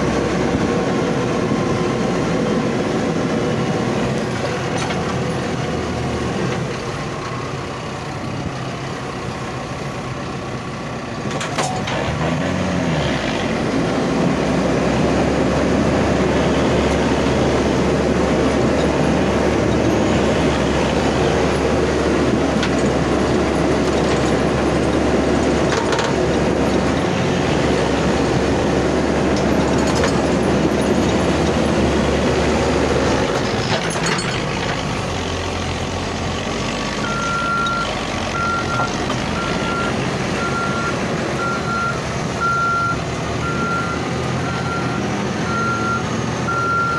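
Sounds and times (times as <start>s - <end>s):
truck diesel engine labouring: 0.0s - 46.9s.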